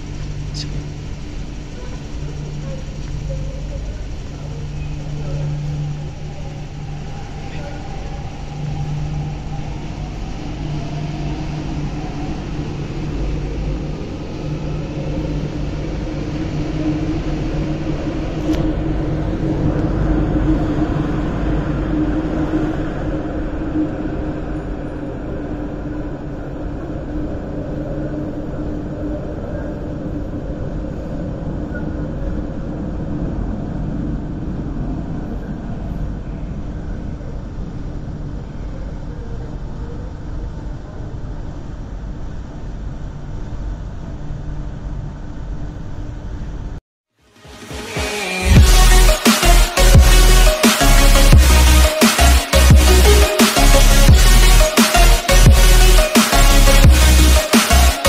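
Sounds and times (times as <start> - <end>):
electric train rumble and hum: 0.0 - 46.8, 47.5 - 58.0.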